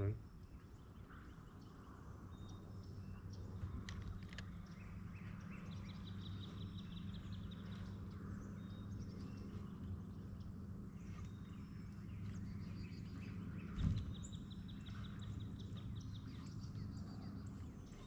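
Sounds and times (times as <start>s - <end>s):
steady low hum: 0.0s - 18.0s
birds chirping and calling: 3.5s - 18.0s.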